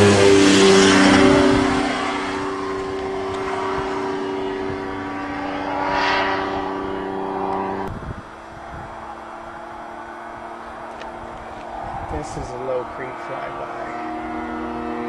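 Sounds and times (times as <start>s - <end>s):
airplane engine droning: 0.0s - 15.0s.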